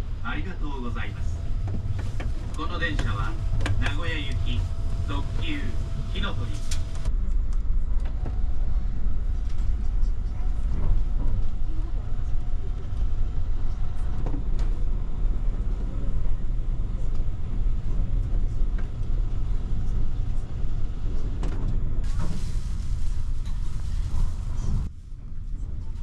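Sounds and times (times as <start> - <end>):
train rumble inside cabin: 0.0 - 26.0.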